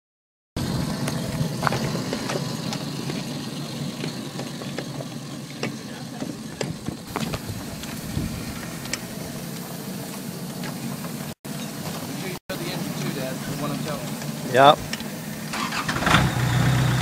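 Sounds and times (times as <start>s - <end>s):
small diesel engine running: 0.6s - 17.0s.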